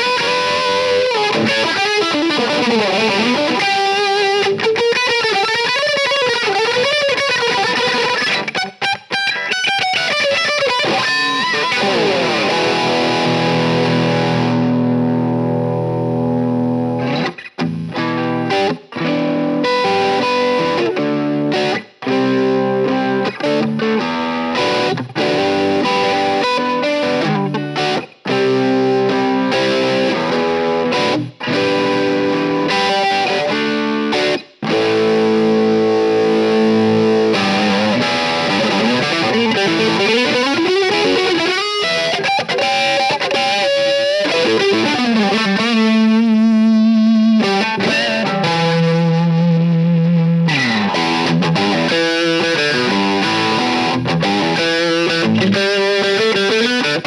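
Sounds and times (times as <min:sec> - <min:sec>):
distorted electric guitar playing: 0:00.0 - 0:57.0.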